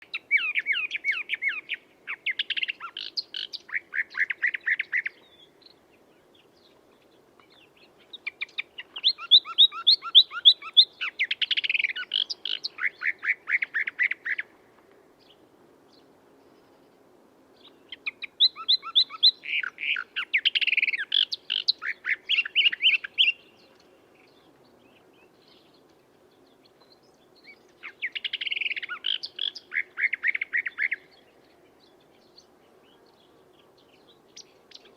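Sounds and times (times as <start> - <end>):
songbird chirping and trilling: 0.0 - 34.9.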